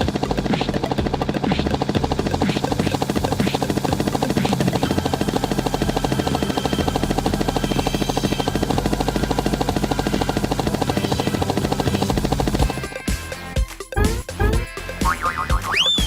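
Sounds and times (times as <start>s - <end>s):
fast mechanical pulsing: 0.0s - 12.9s.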